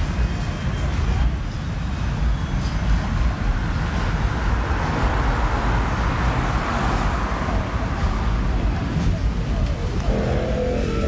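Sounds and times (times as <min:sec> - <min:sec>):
car road noise: 0:00.0 - 0:11.0
low engine rumble: 0:00.0 - 0:11.0.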